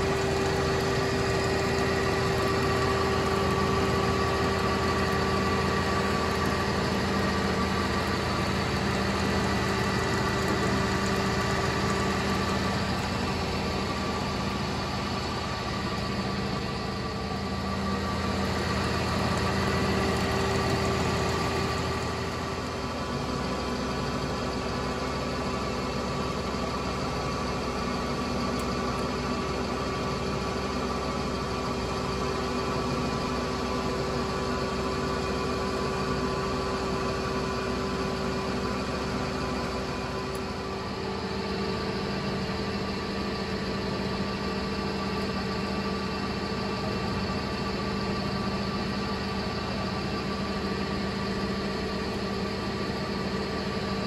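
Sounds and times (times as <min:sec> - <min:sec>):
grinding machine humming: 0:00.0 - 0:54.0.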